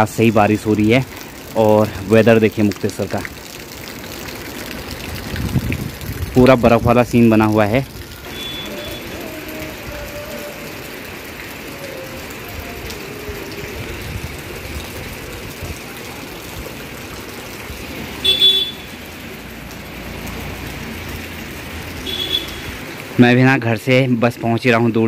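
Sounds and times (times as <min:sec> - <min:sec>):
rain on wet concrete: 0:00.0 - 0:25.0.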